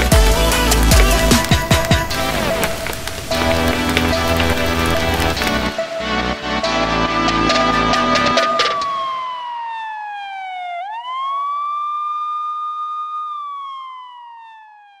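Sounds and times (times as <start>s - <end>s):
siren wailing: 0.7s - 15.0s.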